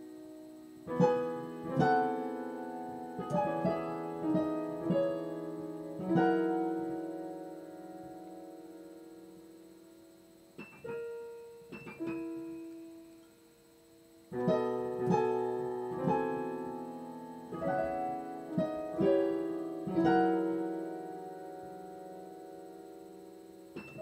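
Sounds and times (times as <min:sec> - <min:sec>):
solo piano: 0:00.0 - 0:24.0.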